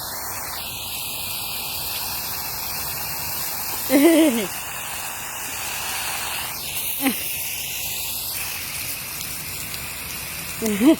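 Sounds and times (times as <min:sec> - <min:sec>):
hose water spray hissing: 0:00.0 - 0:10.9.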